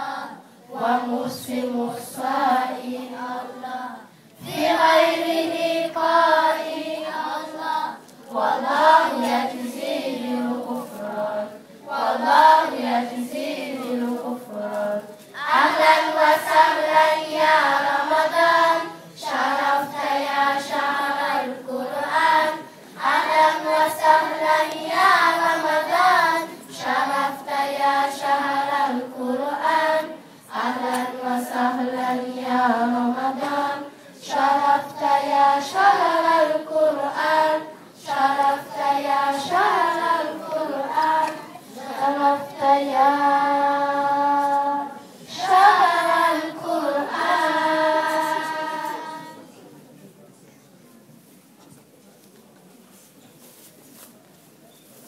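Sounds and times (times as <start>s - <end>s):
children singing together: 0.0s - 49.4s.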